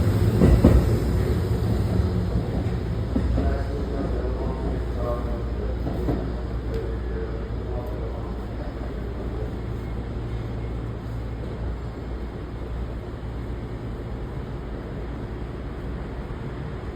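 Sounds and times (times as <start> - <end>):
electric train rumbling: 0.0 - 16.9.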